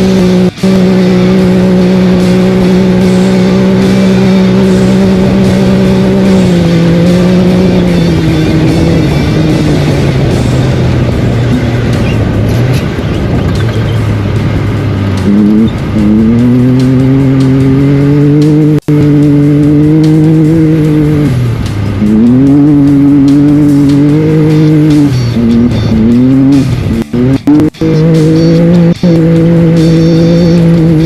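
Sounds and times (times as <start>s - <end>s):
engine revving at high revs: 0.0s - 31.0s.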